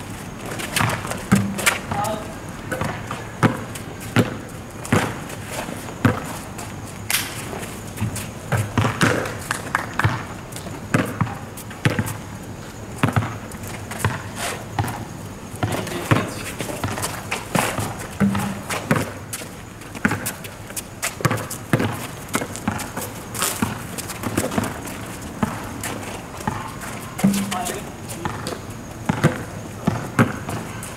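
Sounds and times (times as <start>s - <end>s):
basketball bouncing on asphalt: 0.4s - 5.4s, 6.0s - 6.4s, 8.0s - 12.3s, 13.0s - 30.7s.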